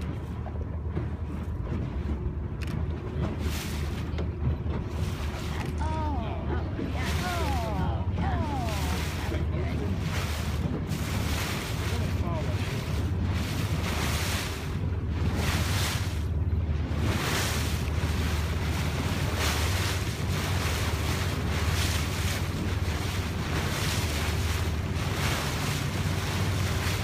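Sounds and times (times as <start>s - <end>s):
boat engine drone: 0.0s - 27.0s
sea water wash: 0.0s - 27.0s
wind buffeting microphone: 0.0s - 27.0s.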